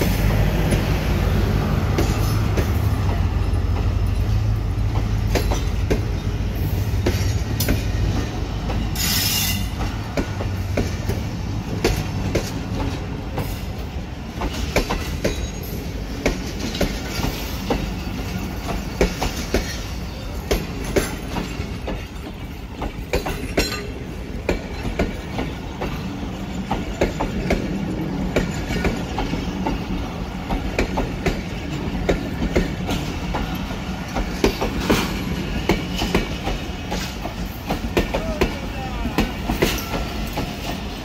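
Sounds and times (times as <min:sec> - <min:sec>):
low train rumble: 0:00.0 - 0:41.0
train wheels clacking over rail joints: 0:00.0 - 0:41.0.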